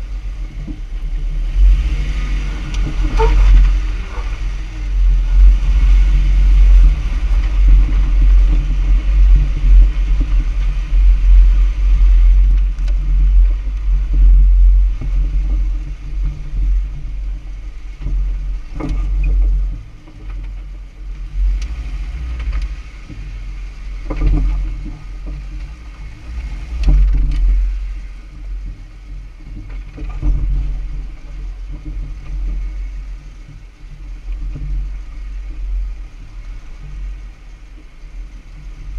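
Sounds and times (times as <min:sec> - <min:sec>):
low engine and road rumble: 0:00.0 - 0:38.9.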